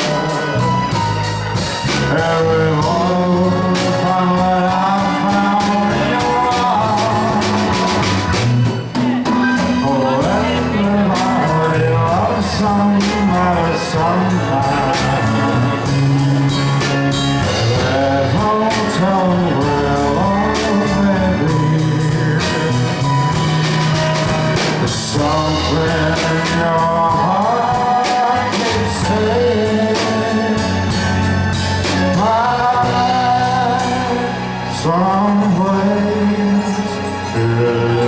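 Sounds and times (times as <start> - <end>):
live band playing a ballad: 0.0 - 38.0
person singing: 0.0 - 38.0.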